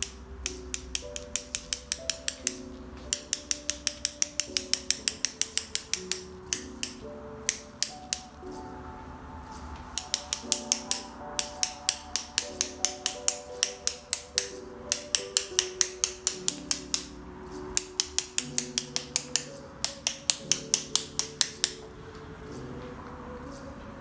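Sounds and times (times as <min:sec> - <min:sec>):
soft background music: 0:00.0 - 0:24.0.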